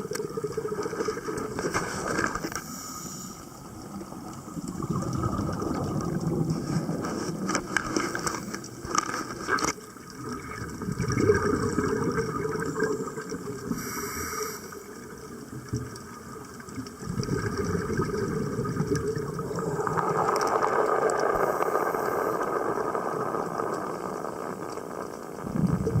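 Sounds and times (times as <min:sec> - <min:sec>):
underwater air bubbling: 0:00.0 - 0:26.0.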